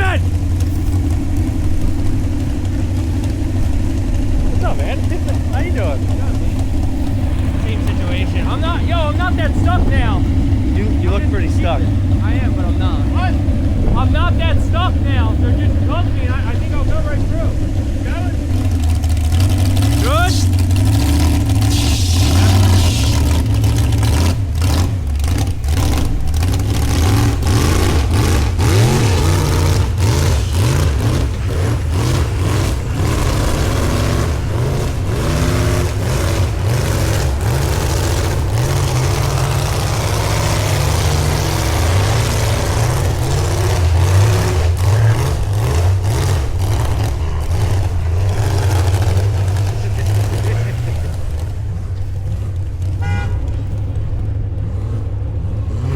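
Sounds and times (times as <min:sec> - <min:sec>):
engine rumbling: 0:00.0 - 0:55.9.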